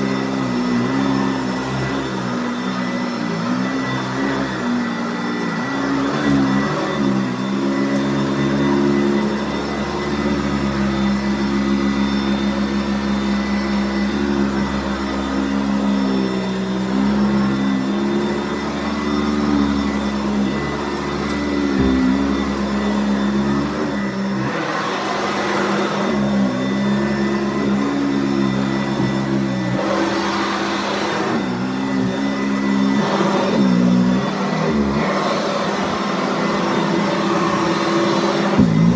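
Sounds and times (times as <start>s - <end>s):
vacuum cleaner motor hum: 0.0s - 38.9s.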